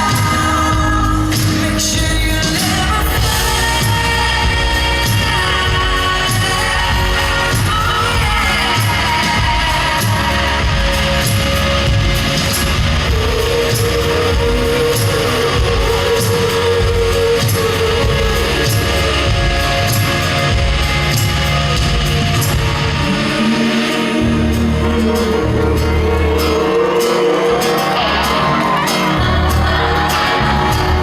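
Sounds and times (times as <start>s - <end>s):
electric guitar: 0.0s - 31.0s
steady drumbeat: 0.0s - 31.0s.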